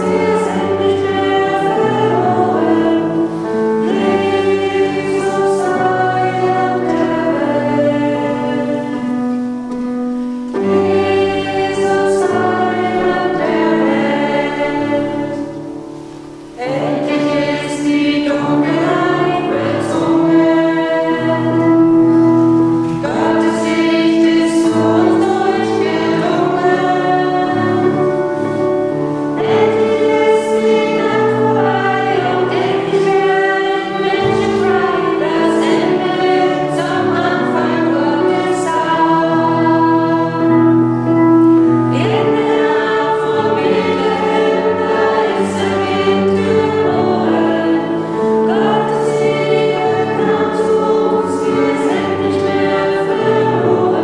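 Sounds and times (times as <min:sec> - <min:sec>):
group singing a hymn: 0:00.0 - 0:54.0
instrumental accompaniment: 0:00.0 - 0:54.0.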